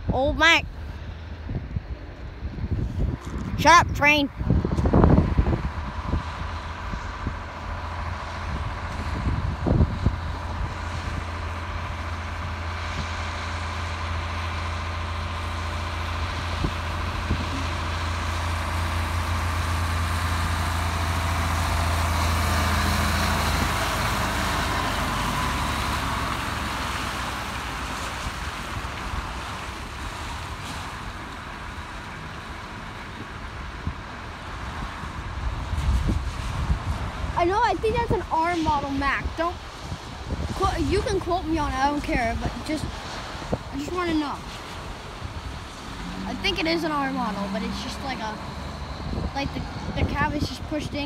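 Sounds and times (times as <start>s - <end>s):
heavy truck diesel drone: 0.0s - 51.0s.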